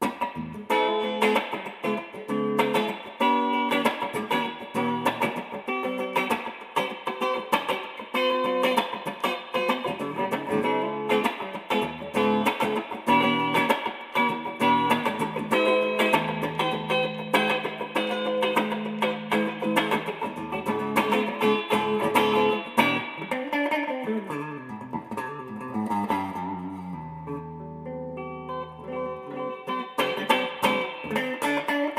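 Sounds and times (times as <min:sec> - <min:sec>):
electric guitar solo: 0:00.0 - 0:31.9.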